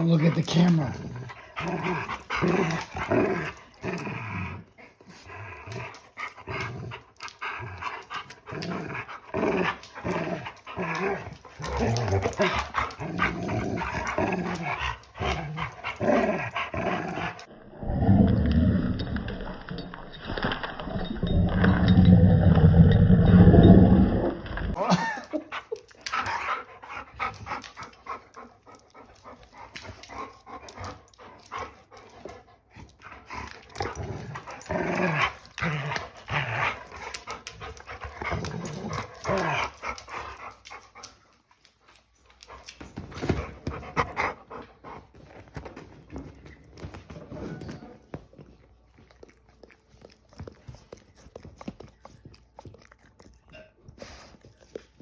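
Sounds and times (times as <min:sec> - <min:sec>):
dogs panting: 0:00.0 - 0:17.5, 0:25.4 - 0:45.9, 0:47.8 - 0:55.0.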